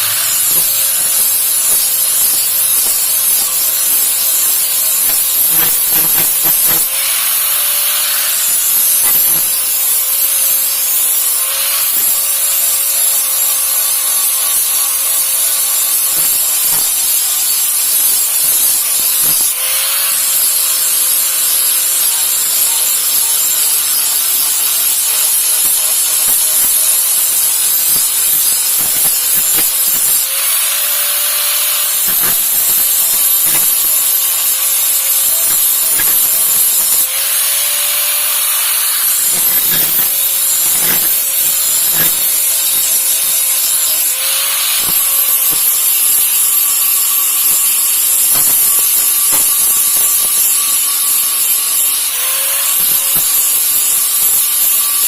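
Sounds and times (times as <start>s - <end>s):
electric grinder grinding metal: 0.0s - 55.0s.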